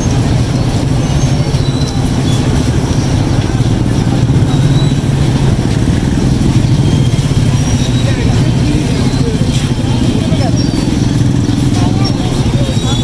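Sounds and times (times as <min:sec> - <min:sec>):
street noise: 0:00.0 - 0:13.0
vehicle engine idling: 0:00.0 - 0:13.0.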